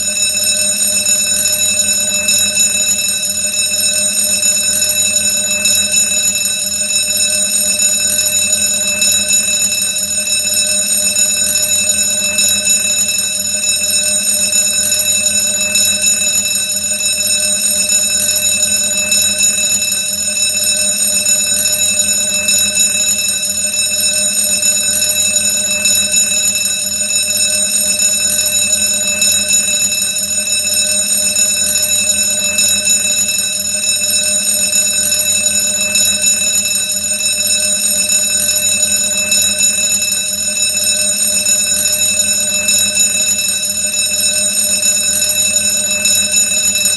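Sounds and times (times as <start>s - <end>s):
alarm bell ringing: 0.0s - 46.9s.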